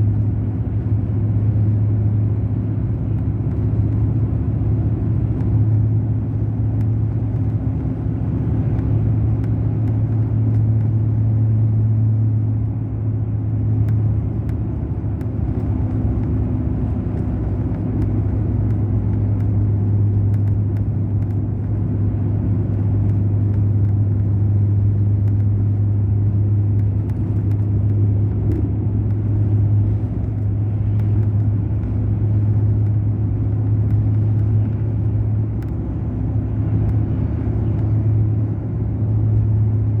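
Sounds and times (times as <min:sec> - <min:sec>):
bus diesel engine drone: 0:00.0 - 0:40.0
road noise: 0:00.0 - 0:40.0.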